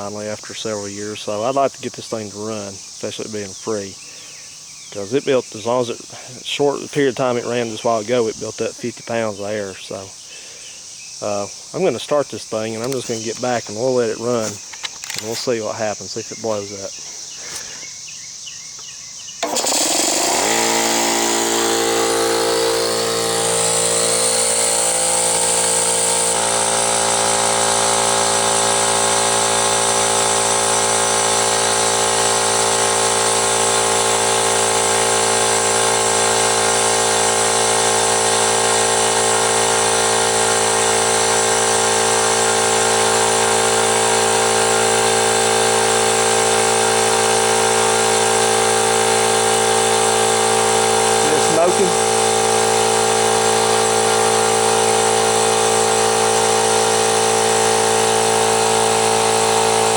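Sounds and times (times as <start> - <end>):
air compressor hum and whine: 0.0 - 18.1, 19.4 - 59.9.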